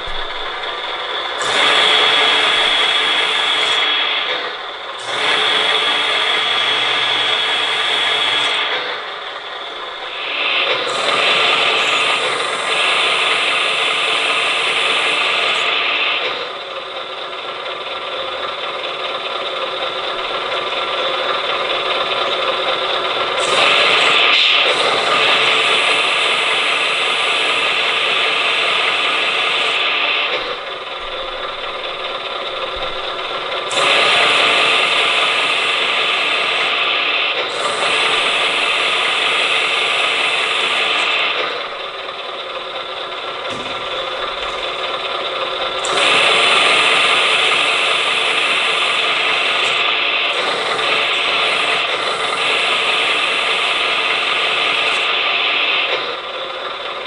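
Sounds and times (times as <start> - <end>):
hydraulic pump whirring: 0.0 - 57.0.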